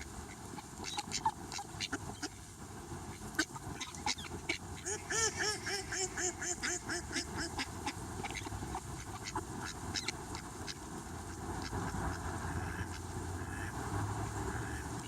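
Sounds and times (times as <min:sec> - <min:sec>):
rustle: 0:00.0 - 0:15.0.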